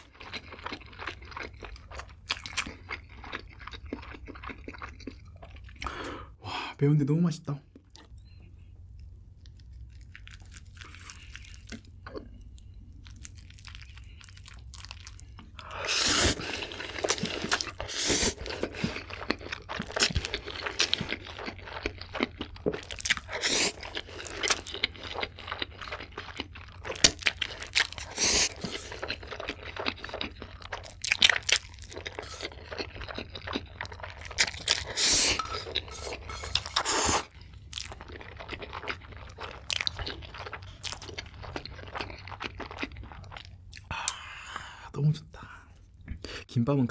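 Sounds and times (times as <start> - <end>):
slurping and wet chewing: 0.0 - 6.0, 9.4 - 44.8.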